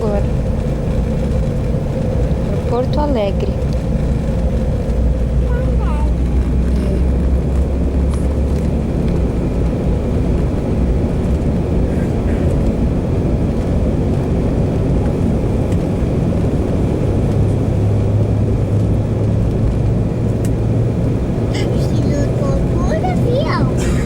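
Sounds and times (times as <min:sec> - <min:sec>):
airliner engines rumbling: 0:00.0 - 0:24.0
low hum: 0:00.0 - 0:24.0.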